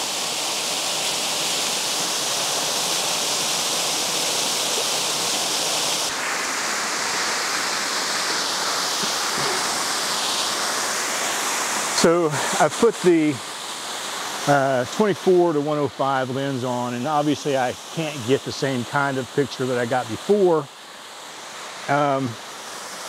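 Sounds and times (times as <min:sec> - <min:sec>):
waterfall rushing over rock: 0:00.0 - 0:23.0.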